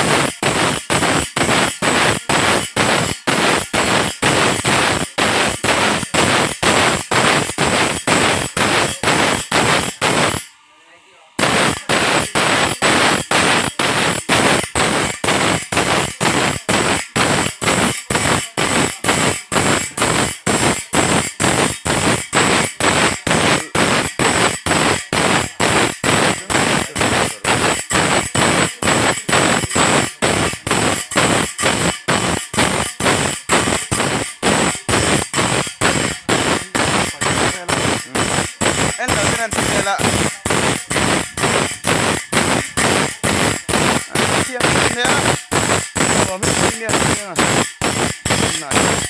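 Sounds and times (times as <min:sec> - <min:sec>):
grinding wheel sharpening saw blade: 0:00.0 - 0:10.6, 0:11.4 - 0:49.0.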